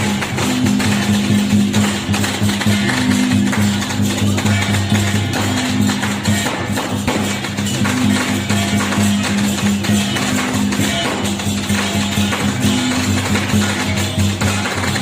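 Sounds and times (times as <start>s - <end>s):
cymbals clashing: 0.0s - 15.0s
drums and gongs playing: 0.0s - 15.0s.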